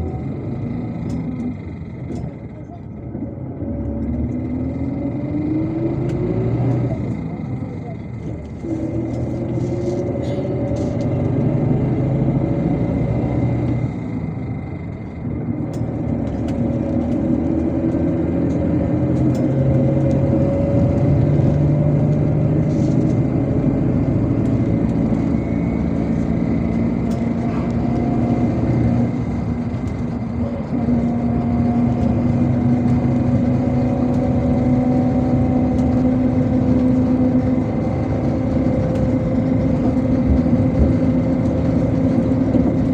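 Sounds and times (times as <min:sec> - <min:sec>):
bus engine: 0:00.0 - 0:42.9
road noise: 0:00.0 - 0:42.9.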